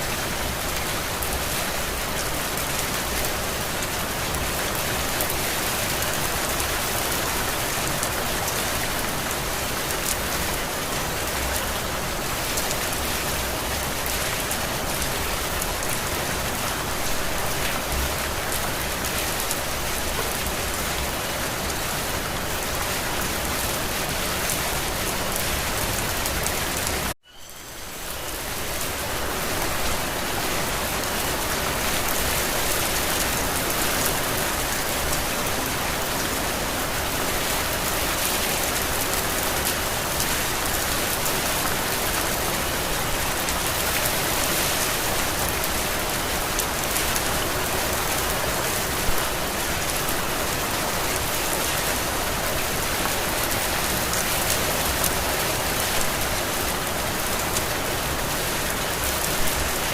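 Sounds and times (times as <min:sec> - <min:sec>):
heavy rain pattering: 0:00.0 - 0:27.2, 0:27.8 - 0:59.9.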